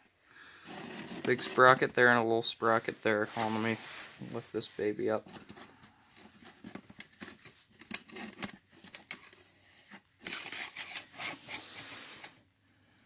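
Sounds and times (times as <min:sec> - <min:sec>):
rustling and scraping handling noise: 0:00.6 - 0:12.5.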